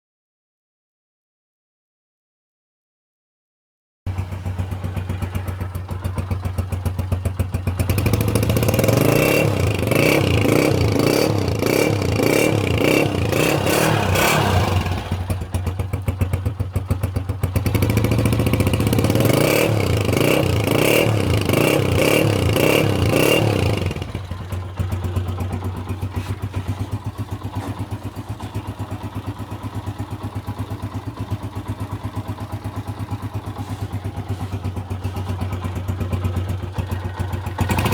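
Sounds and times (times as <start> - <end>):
motorcycle engine idling and revving: 4.1 - 37.9.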